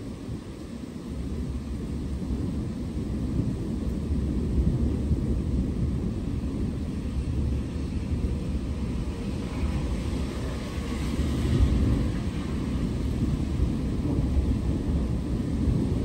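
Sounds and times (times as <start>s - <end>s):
distant thunder rumbling: 0.0s - 16.0s
rain hiss: 0.0s - 16.0s.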